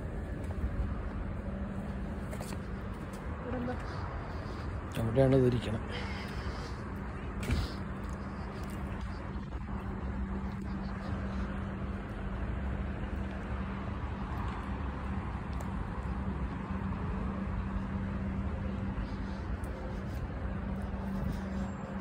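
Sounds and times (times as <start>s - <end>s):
low mechanical hum: 0.0s - 22.0s
rumble and hiss: 0.0s - 22.0s.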